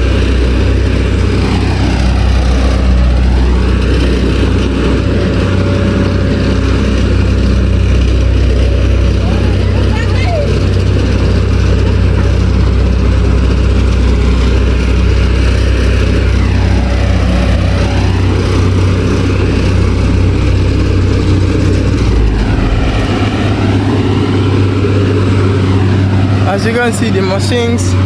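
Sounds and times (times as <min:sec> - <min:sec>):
heavy machinery engines droning: 0:00.0 - 0:28.0.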